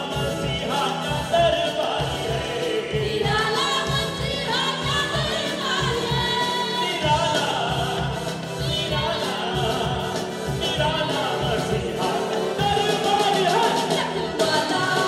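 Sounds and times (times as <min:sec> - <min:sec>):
amplified backing music with beat: 0:00.0 - 0:15.0
group singing worship song: 0:00.0 - 0:15.0.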